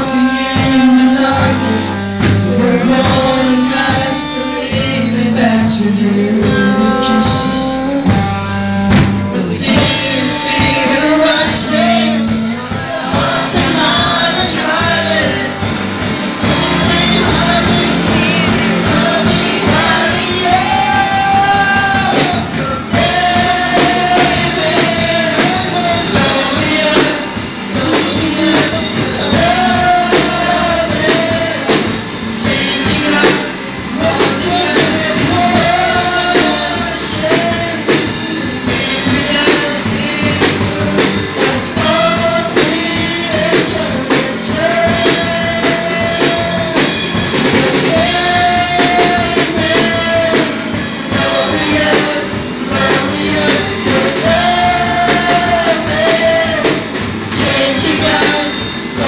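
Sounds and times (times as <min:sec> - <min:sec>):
drum kit beat: 0:00.0 - 0:59.0
electric guitar: 0:00.0 - 0:59.0
people singing into microphones: 0:00.0 - 0:59.0.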